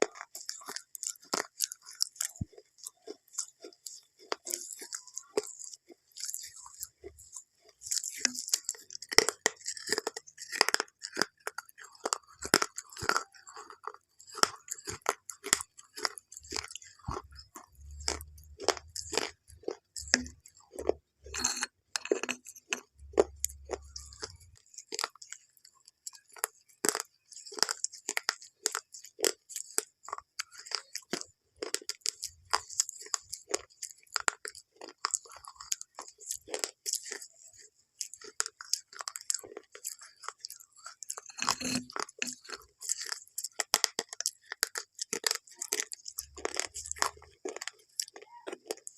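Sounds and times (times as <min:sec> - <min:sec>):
crunching crisp food: 0:00.0 - 0:48.9.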